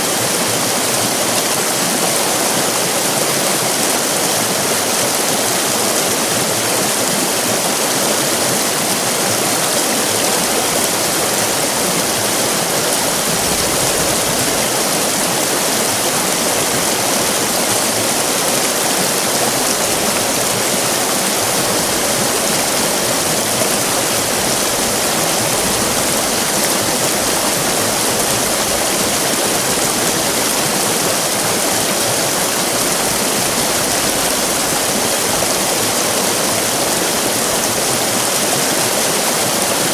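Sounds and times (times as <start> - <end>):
river rapids rushing over rocks: 0.0 - 39.9.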